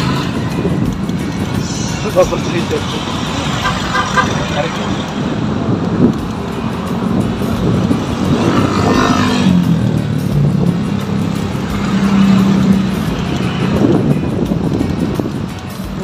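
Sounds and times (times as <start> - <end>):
engine hum: 0.0 - 16.0
motor vehicles passing: 0.0 - 16.0.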